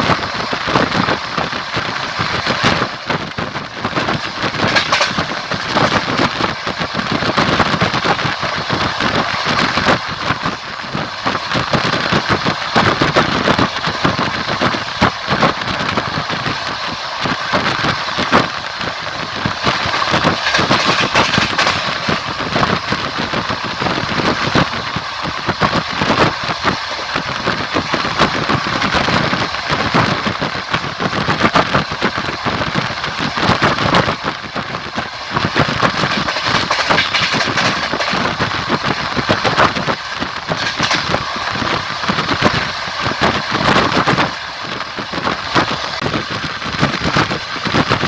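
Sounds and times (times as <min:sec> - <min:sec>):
train wheels clattering on rails: 0:00.0 - 0:48.0.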